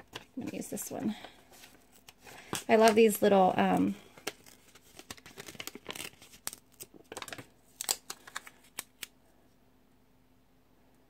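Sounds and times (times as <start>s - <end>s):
paper stickers rustling: 0.1s - 9.1s.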